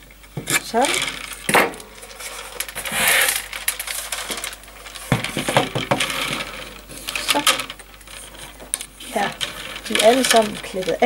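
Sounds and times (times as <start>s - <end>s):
cane pieces clicking and rattling: 0.3s - 11.0s.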